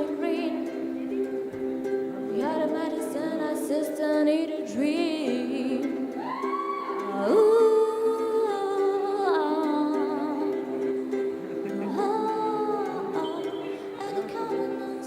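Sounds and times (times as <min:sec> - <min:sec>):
girl singing: 0:00.0 - 0:01.0, 0:02.2 - 0:15.0
strummed ukulele: 0:00.0 - 0:15.0.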